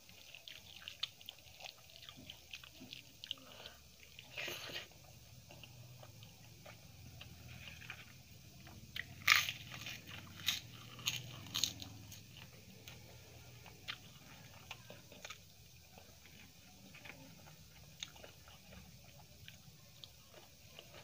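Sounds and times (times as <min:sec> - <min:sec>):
chewing and mouth clicks: 0:00.0 - 0:21.0
crunching fried papad: 0:00.0 - 0:21.0.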